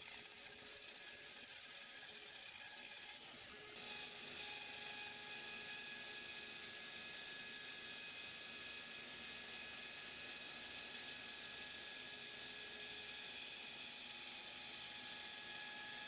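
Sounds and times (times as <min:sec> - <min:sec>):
router cutting wood: 0:00.0 - 0:16.0.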